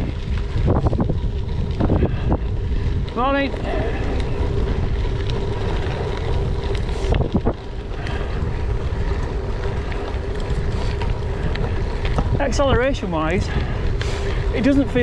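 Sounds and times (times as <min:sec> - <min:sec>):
bike tyres rumbling on gravel: 0:00.0 - 0:15.0
wind buffeting microphone: 0:00.0 - 0:15.0.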